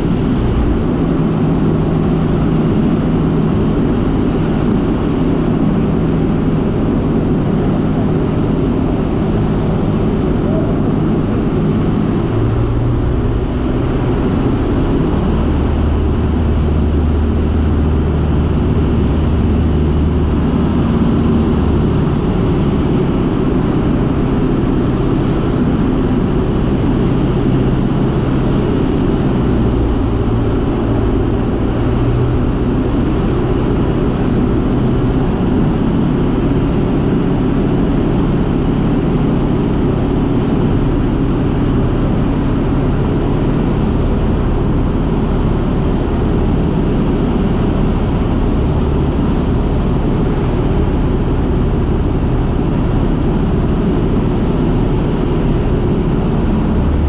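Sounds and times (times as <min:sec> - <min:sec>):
air noise around airframe: 0:00.0 - 0:57.0
light aircraft engine droning: 0:00.0 - 0:57.0.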